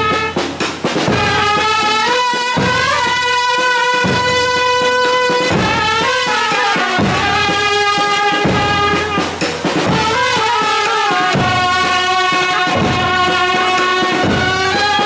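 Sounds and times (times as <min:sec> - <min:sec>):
slow drum beat: 0:00.0 - 0:15.0.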